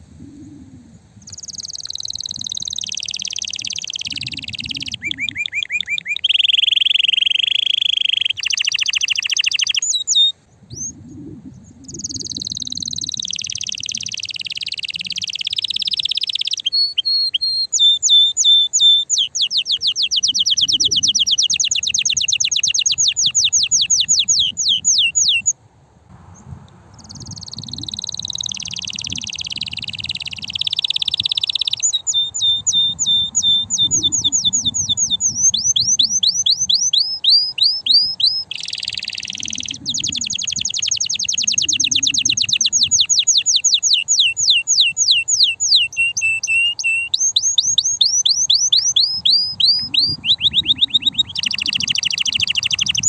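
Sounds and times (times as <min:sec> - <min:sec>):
canary singing trills: 0:00.0 - 0:25.6, 0:26.3 - 0:53.0.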